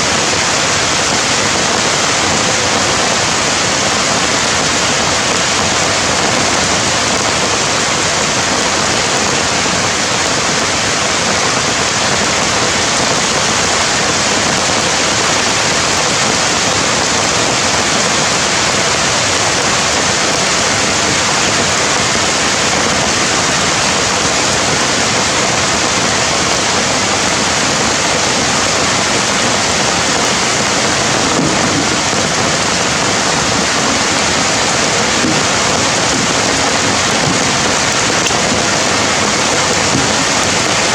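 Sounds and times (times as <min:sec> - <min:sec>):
rushing water hiss: 0:00.0 - 0:40.9.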